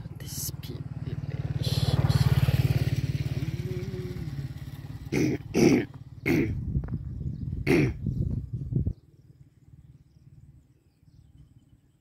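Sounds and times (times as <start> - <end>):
small motorcycle engine running: 0.0 - 7.6, 8.4 - 11.6.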